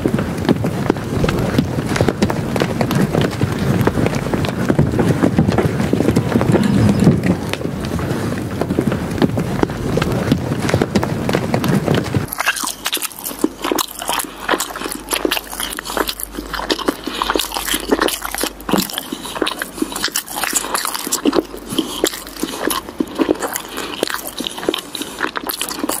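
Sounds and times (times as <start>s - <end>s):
gravel crunching and scraping: 0.0s - 26.0s.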